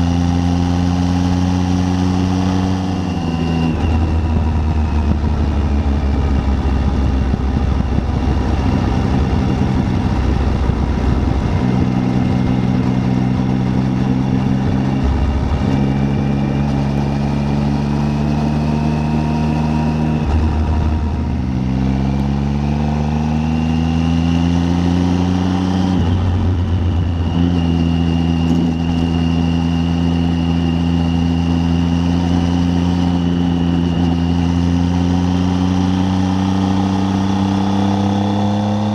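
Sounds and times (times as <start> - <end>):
motorcycle engine running: 0.0 - 38.9
road rumble: 0.0 - 38.9
wind: 0.0 - 38.9.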